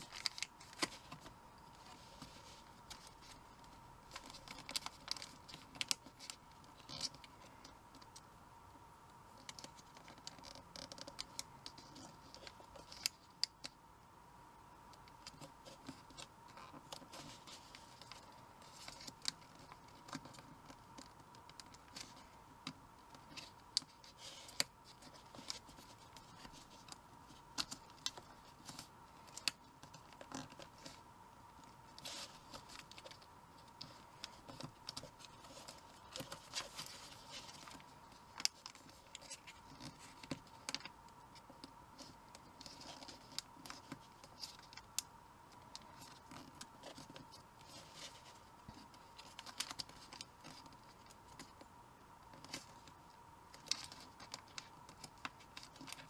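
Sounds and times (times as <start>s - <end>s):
paper folding and creasing: 0.0s - 8.2s, 15.2s - 22.4s, 23.0s - 31.0s, 31.6s - 51.7s, 52.3s - 56.0s
faint steady tone: 0.0s - 56.0s.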